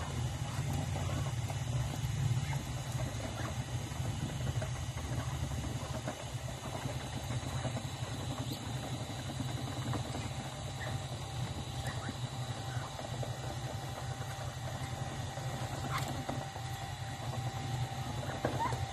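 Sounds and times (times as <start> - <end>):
ducks pecking at grain: 0.0 - 18.9.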